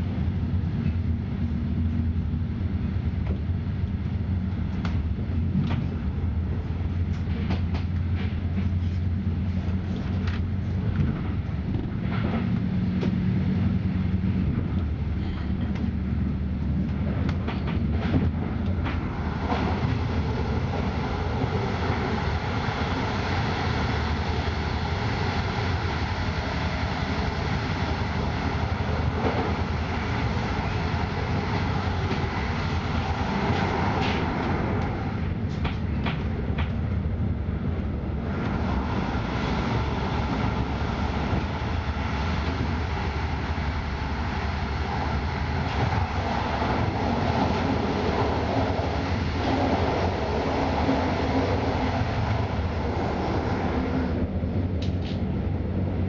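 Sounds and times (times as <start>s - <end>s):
train rumble and hiss: 0.0s - 56.0s
train wheels on rails: 0.0s - 56.0s.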